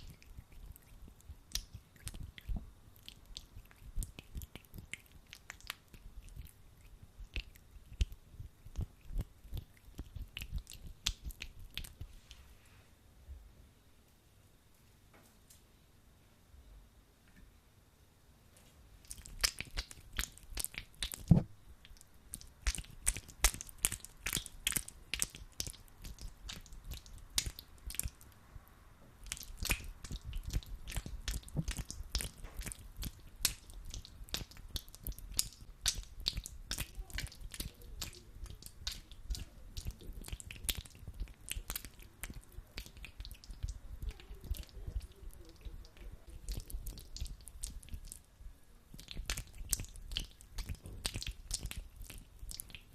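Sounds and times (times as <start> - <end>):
hands squelching sticky gel: 0.0 - 12.4, 19.0 - 28.4, 29.2 - 48.2, 49.0 - 52.9.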